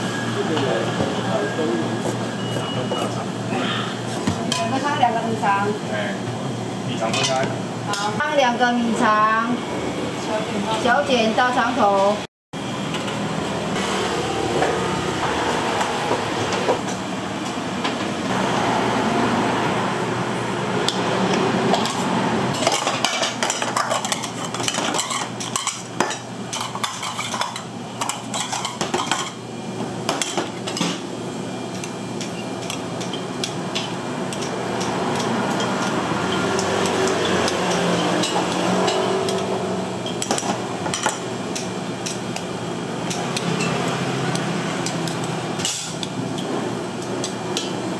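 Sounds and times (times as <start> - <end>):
kitchen background noise: 0.0 - 47.9.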